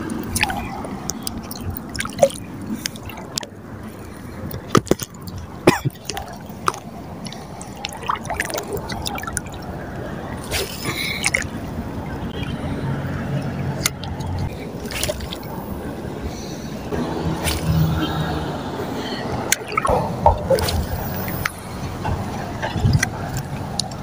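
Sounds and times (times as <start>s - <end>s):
sharp water splats: 0.0s - 12.7s, 13.8s - 15.8s, 17.2s - 18.4s, 19.1s - 24.0s
sea water lapping at shoreline: 0.0s - 24.0s.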